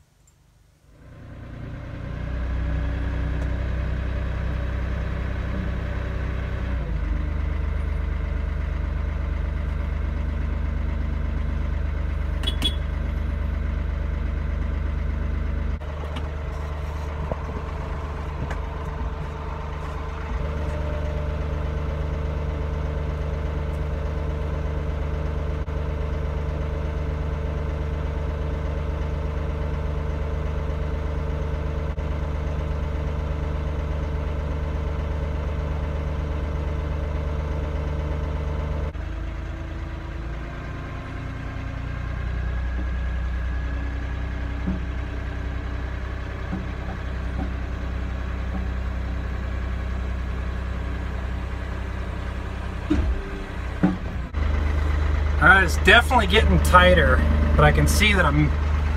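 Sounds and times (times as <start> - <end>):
tractor diesel engine running: 0.7 - 58.9.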